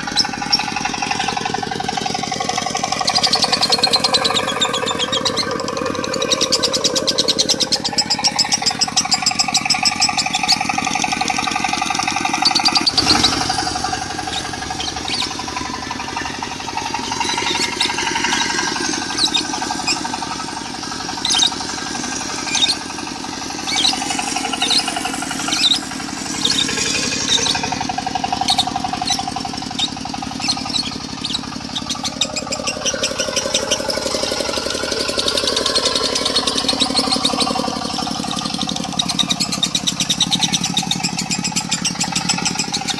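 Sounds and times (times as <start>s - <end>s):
bird chattering and chirping: 0.0s - 42.9s
diesel engine running: 0.0s - 42.9s.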